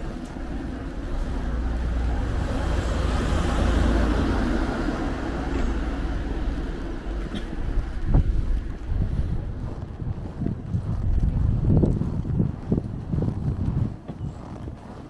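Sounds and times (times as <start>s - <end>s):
car passing: 0.0s - 13.6s
wind rumble on microphone: 0.0s - 15.0s.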